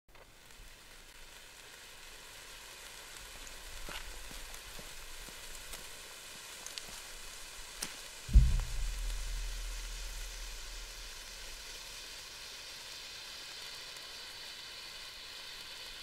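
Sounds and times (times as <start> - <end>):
sharp crackles: 0.1 - 14.4
sparkler fountains hissing: 0.1 - 16.0.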